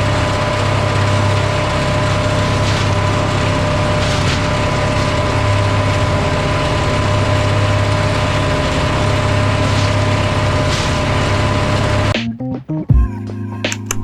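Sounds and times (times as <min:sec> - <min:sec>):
woodchipper engine drone: 0:00.0 - 0:12.2
constant whine: 0:00.0 - 0:14.0.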